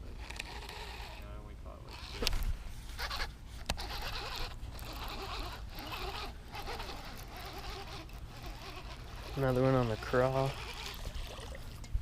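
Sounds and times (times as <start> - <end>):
fishing reel whirring: 0.0 - 11.8.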